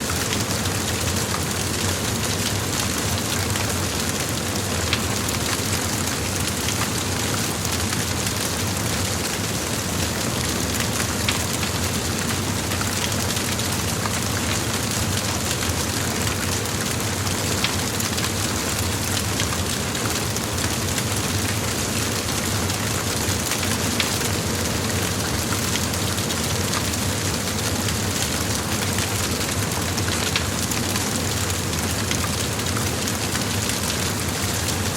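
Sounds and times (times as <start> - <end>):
large fire roaring and crackling: 0.0 - 34.9.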